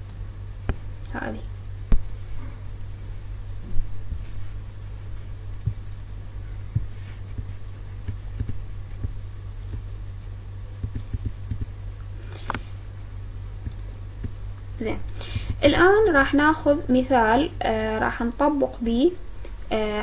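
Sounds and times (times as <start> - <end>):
soft low thumps: 0.0 - 17.4
low electrical hum: 0.0 - 20.0.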